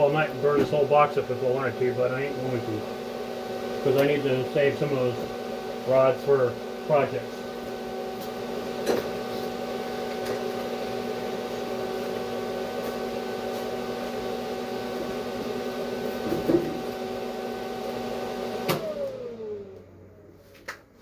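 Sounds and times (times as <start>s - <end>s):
cooling fan whirring: 0.0s - 21.0s.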